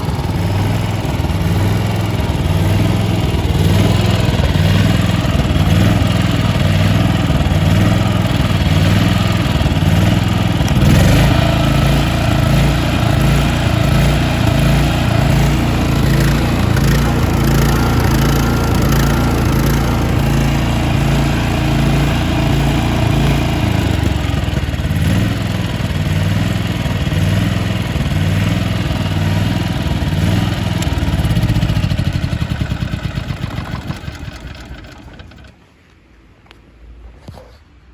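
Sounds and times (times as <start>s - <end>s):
welder generator engine running: 0.0s - 35.6s
engine running down to a stop: 0.0s - 35.9s.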